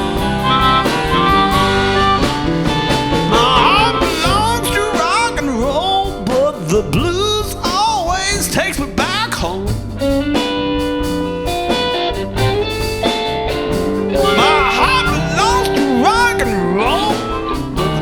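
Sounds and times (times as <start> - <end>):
blues-rock band playing live: 0.0 - 18.0
electric guitar bending notes: 0.0 - 18.0.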